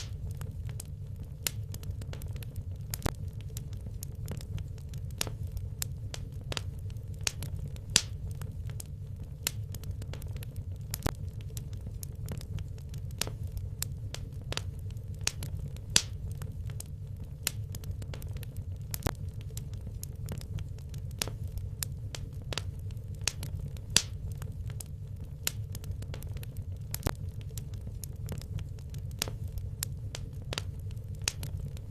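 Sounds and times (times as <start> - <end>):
logs crackling in fireplace: 0.0 - 31.9
low fire rumble: 0.0 - 31.9.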